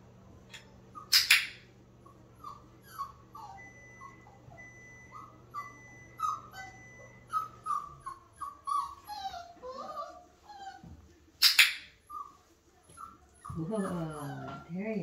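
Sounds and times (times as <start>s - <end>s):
puppy whimpering: 0.9s - 15.0s.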